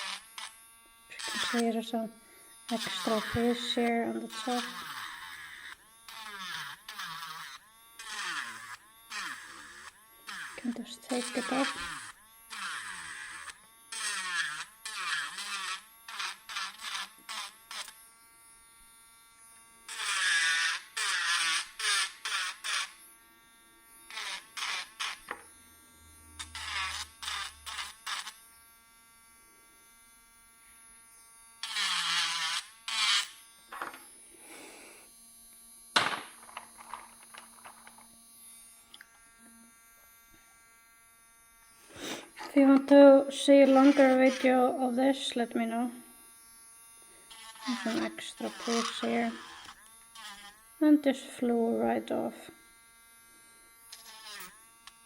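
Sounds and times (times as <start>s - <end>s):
electric sanding tool whining: 0.0s - 55.0s.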